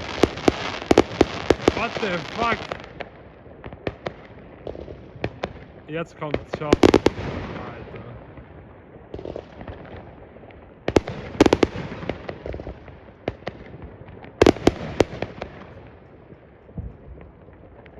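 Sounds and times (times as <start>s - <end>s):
fireworks exploding: 0.0s - 17.9s
rumble and crackle: 0.0s - 17.9s.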